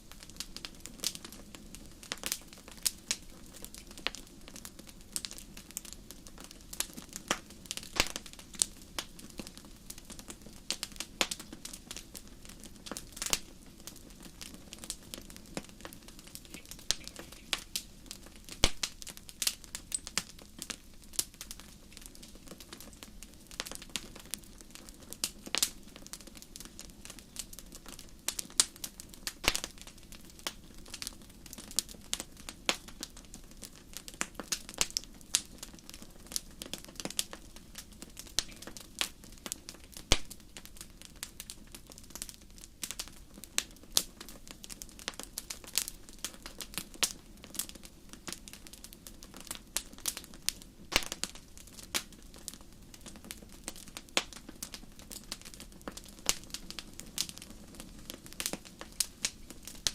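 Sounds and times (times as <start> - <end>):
low hiss of burning: 0.0 - 59.9
wood fire popping and snapping: 0.0 - 59.9.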